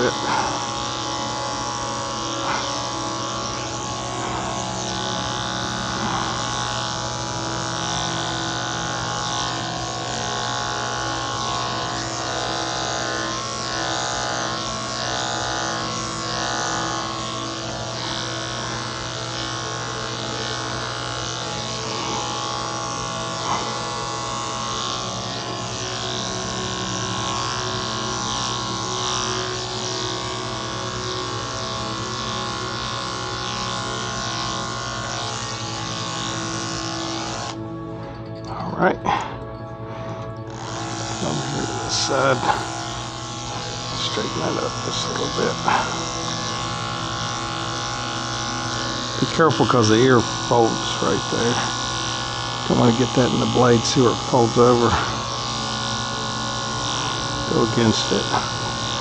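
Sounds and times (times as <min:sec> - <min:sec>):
electric clippers buzzing: 0:00.0 - 0:59.0.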